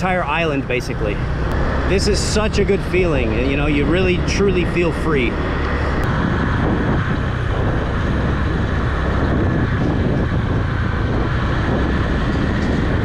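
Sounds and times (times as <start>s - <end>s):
motorbike engine and wind rush: 0.0s - 13.0s.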